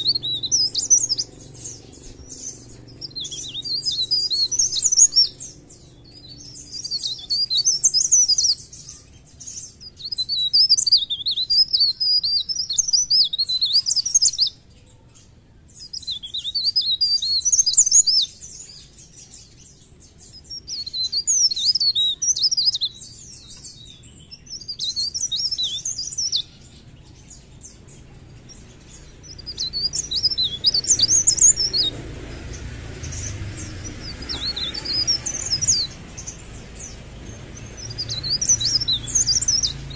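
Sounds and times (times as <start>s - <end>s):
songbird twittering: 0.0s - 39.9s.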